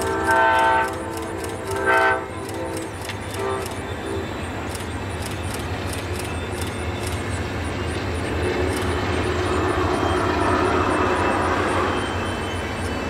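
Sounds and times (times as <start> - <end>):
diesel train rumbling past: 0.0 - 13.0.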